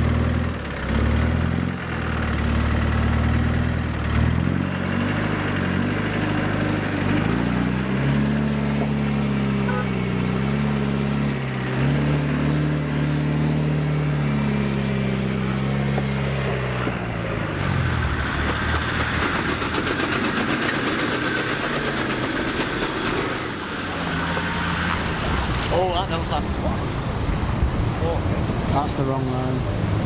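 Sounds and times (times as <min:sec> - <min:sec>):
off-road vehicle engine revving: 0:00.0 - 0:30.0.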